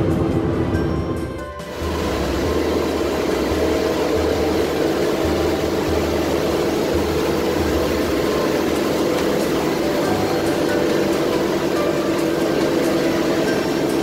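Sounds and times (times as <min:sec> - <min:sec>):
radial aircraft engines throbbing: 0:00.0 - 0:14.0.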